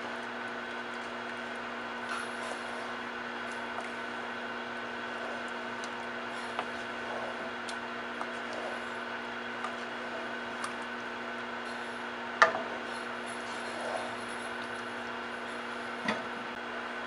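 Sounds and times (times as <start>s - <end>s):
steady hum: 0.0s - 17.0s
wooden spoon stirring in a pot: 0.1s - 16.3s.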